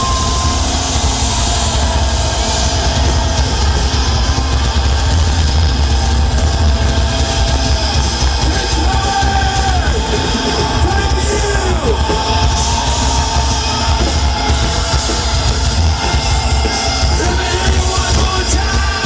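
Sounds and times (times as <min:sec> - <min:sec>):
distorted live metal band: 0:00.0 - 0:19.0.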